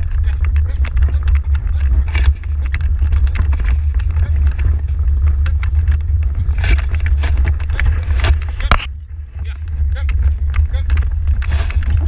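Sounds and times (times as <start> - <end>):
carriage rattling clatter: 0.0 - 12.0
carriage rumbling over grass: 0.0 - 12.0.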